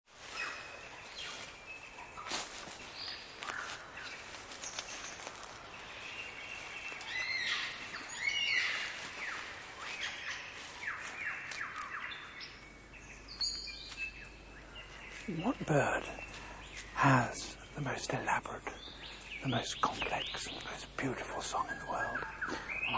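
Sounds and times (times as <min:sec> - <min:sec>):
birds chirping and whistling: 0:00.2 - 0:22.9
loud sweeping bird calls: 0:00.2 - 0:22.9.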